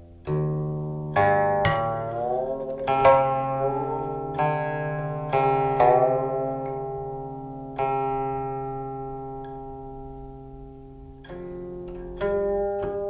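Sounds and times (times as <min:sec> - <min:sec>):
plucked string notes: 0:00.0 - 0:13.0.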